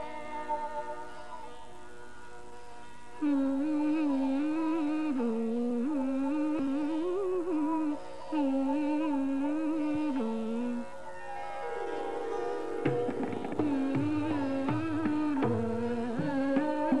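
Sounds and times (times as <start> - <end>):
slow wordless melody: 0.0 - 17.0.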